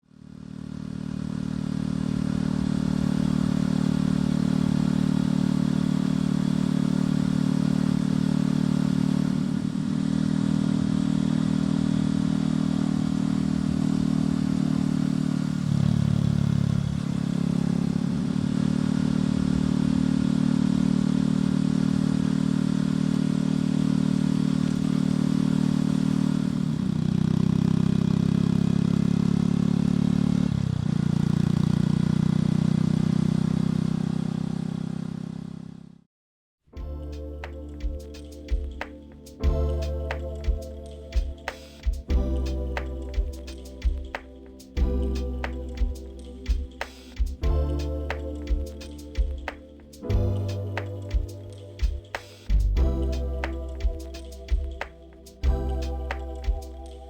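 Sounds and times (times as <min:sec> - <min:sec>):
motorcycle engine and exhaust: 0:00.0 - 0:36.0, 0:36.8 - 0:57.0.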